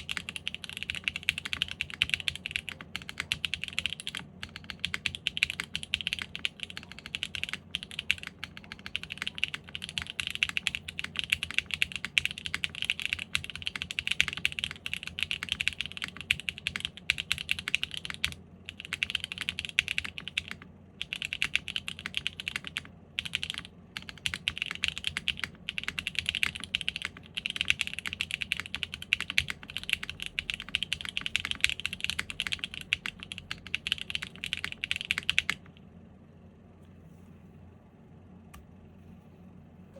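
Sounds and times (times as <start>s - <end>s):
mechanical keyboard typing: 0.0s - 35.8s.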